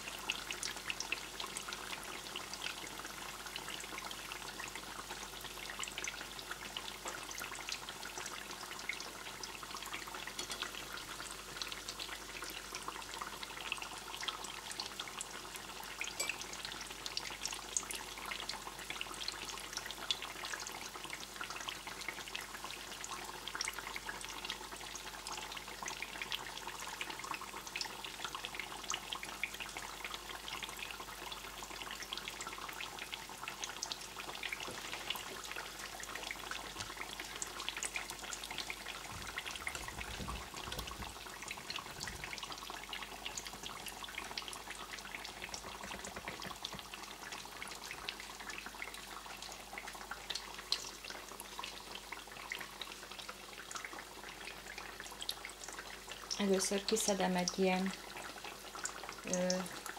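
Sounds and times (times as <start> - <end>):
zucchini sizzling in hot oil: 0.0 - 59.9.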